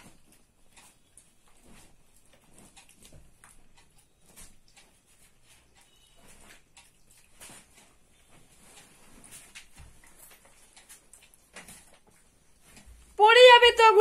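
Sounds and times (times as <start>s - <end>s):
cloth rustling: 0.0s - 13.2s.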